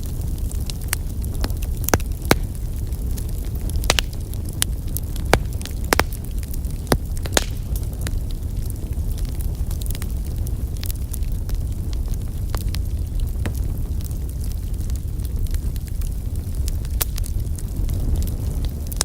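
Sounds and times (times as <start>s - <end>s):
fire crackling and popping: 0.0s - 19.0s
flames rumbling: 0.0s - 19.0s.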